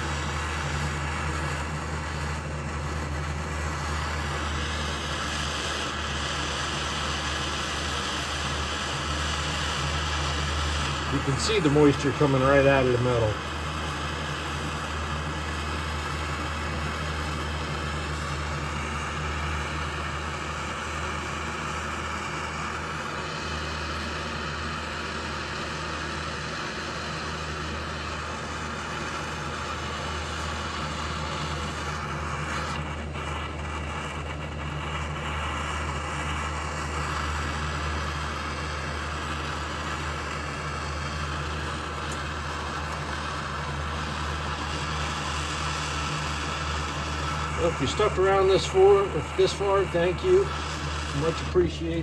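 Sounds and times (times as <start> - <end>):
furnace roaring: 0.0 - 52.0.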